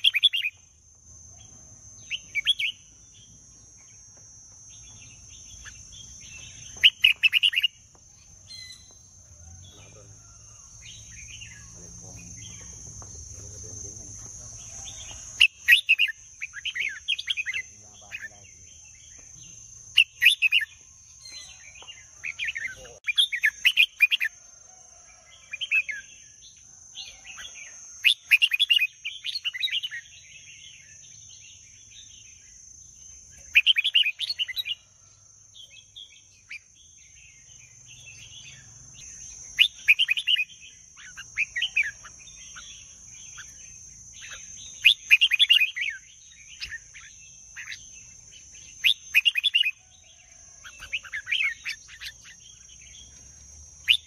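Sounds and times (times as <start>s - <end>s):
bird singing warbled phrases: 0.0s - 4.0s, 4.7s - 24.4s, 25.4s - 35.0s, 35.6s - 54.0s.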